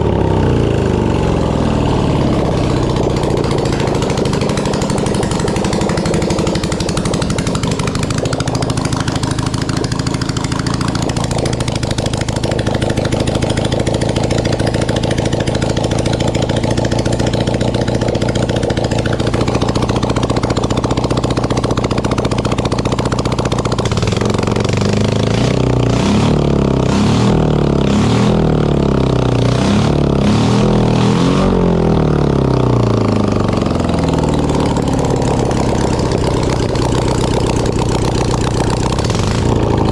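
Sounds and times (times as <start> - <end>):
motorcycle engine idling: 0.0 - 39.9
motorcycle engine revving: 0.0 - 39.9.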